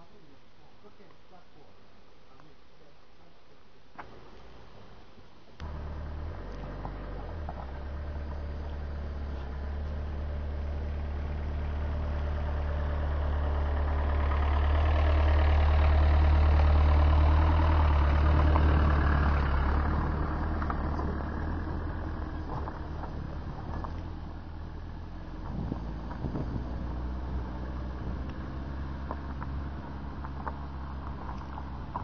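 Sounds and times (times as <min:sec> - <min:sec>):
van engine passing by: 0:05.6 - 0:32.0.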